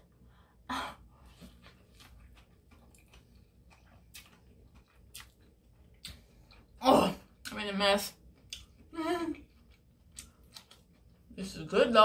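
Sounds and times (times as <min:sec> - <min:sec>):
person chewing soft food: 0:01.1 - 0:07.5, 0:08.2 - 0:11.4.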